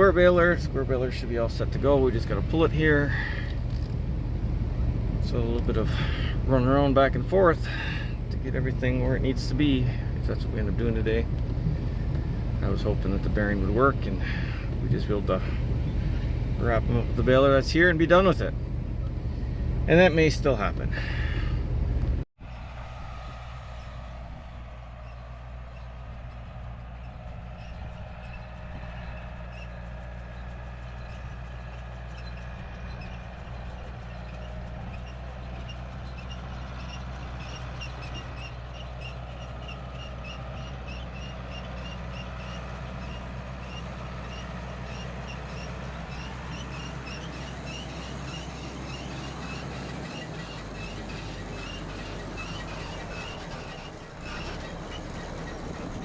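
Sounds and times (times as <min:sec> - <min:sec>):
tractor engine running: 0:00.0 - 0:22.3, 0:25.1 - 0:56.0.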